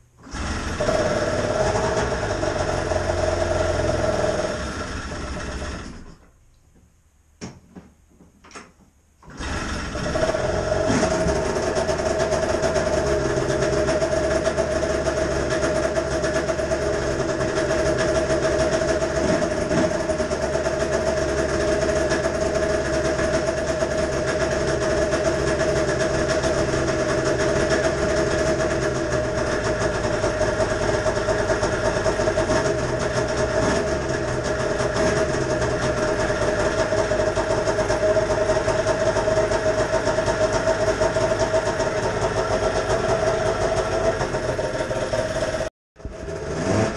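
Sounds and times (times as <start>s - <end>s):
snowmobile engine idling: 0.7s - 6.0s, 9.4s - 46.9s.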